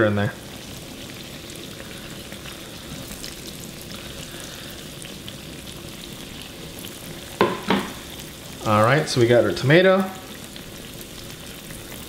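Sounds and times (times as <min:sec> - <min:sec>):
dough sizzling in oil: 0:00.0 - 0:12.0.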